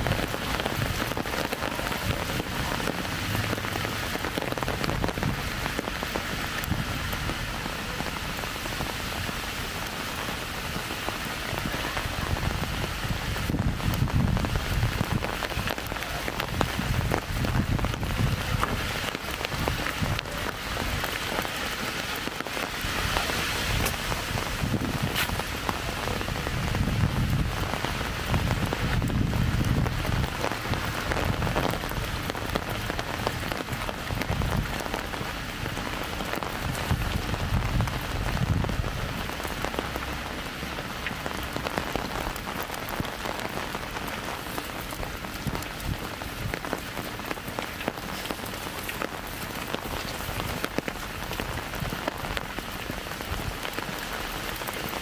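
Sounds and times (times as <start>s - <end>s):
light rain: 0.0s - 55.0s
raindrops ticking close by: 0.0s - 55.0s.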